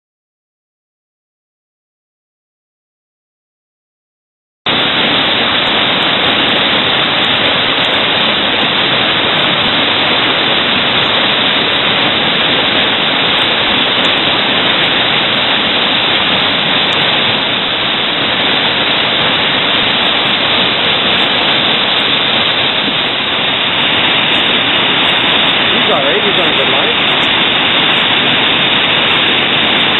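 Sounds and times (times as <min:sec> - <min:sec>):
whitewater river rapid rushing: 0:04.7 - 0:29.9.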